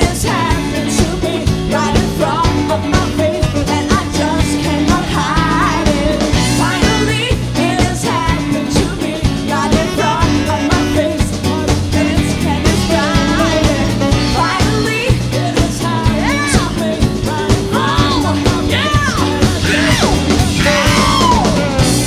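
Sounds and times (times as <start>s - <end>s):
live funk band playing: 0.0s - 22.0s
woman singing: 0.0s - 22.0s.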